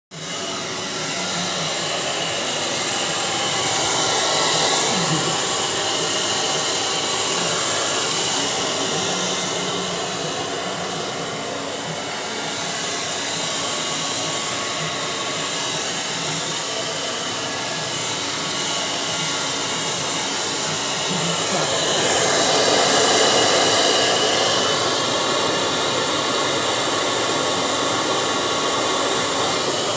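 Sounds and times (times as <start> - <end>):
hair dryer blowing: 0.1 - 29.9.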